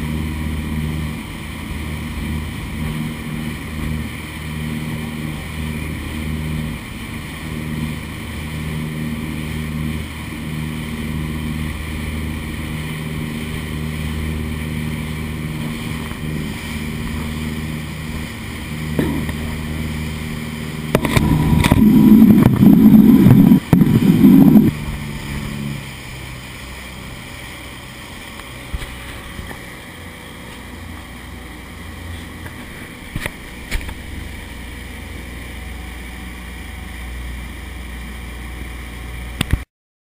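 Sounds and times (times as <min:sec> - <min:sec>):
rough rumbling burst: 0:00.0 - 0:37.2
motorboat engine drone: 0:00.0 - 0:39.7
wind and water noise: 0:00.0 - 0:39.7.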